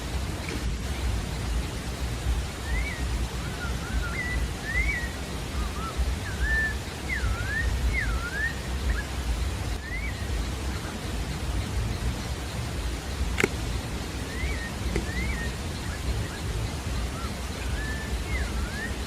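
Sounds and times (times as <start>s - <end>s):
low background rumble: 0.0s - 19.0s
thrush singing whistled notes: 0.0s - 19.0s.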